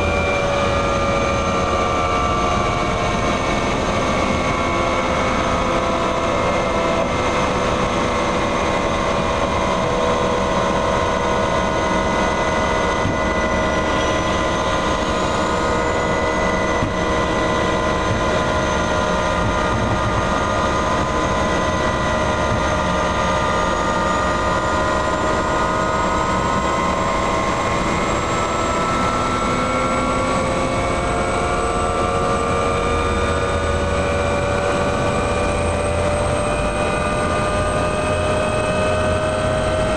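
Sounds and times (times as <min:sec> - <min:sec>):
helicopter turbine and rotor whine: 0:00.0 - 0:39.9.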